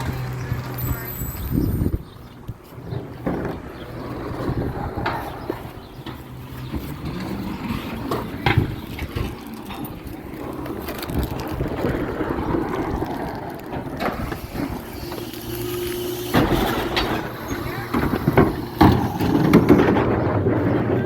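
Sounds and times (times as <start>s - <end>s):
garbage truck engine rumbling: 0.0s - 21.0s.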